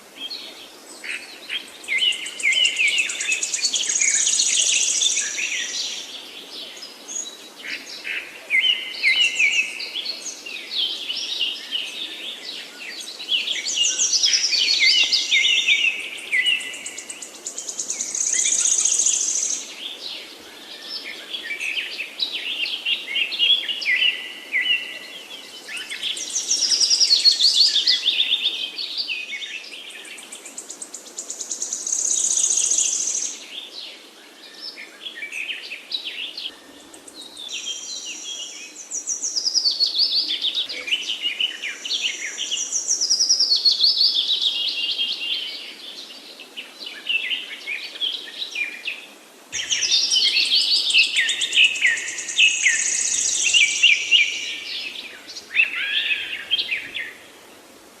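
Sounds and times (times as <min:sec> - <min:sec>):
soft steady hiss: 0:00.0 - 0:58.0
songbirds singing: 0:00.0 - 0:58.0.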